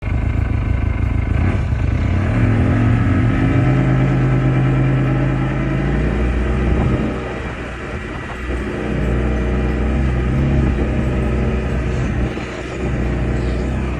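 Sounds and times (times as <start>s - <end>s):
atv engine under throttle: 0.0s - 13.9s.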